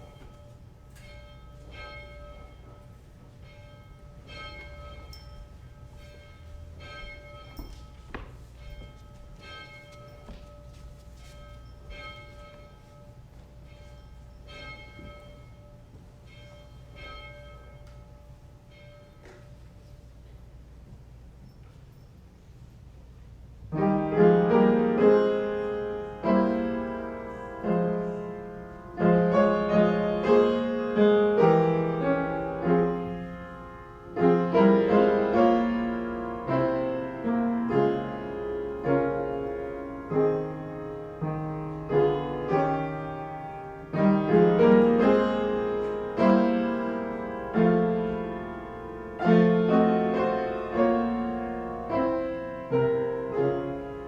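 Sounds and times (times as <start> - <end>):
piano playing slow chords: 0.0 - 20.9, 23.6 - 54.0.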